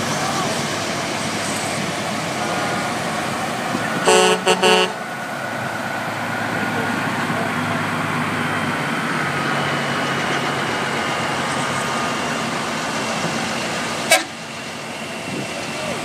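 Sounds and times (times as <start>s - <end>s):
truck diesel engines rolling past: 0.0s - 16.0s.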